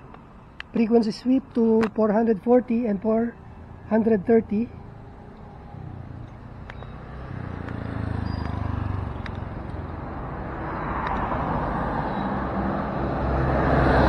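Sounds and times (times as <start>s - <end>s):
road noise: 0.0s - 14.0s
vehicle engine hum: 0.0s - 14.0s.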